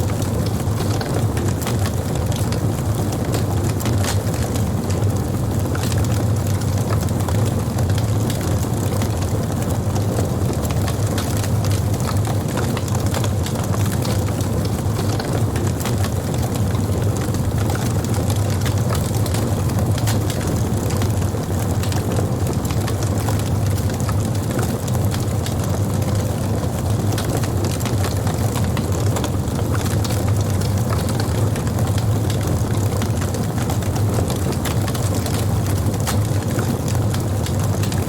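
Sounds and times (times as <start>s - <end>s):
burning wood crackling and popping: 0.0s - 38.0s
campfire flames rumbling: 0.0s - 38.0s.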